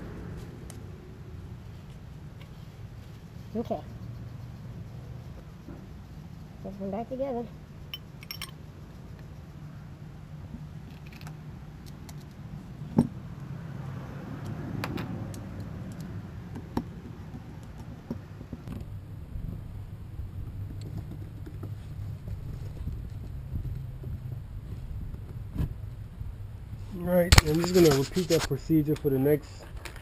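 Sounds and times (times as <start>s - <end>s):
low background rumble: 0.0s - 13.5s, 15.0s - 30.0s.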